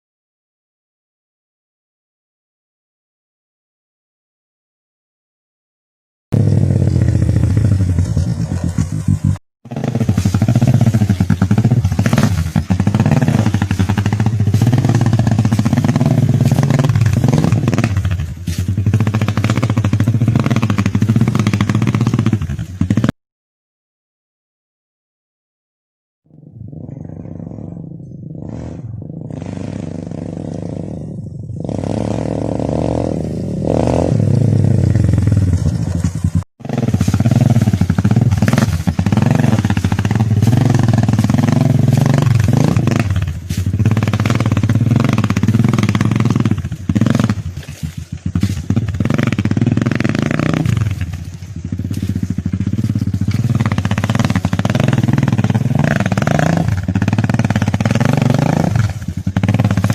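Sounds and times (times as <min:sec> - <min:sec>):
motorcycle engine revving: 0:06.3 - 0:23.2, 0:26.3 - 0:59.9.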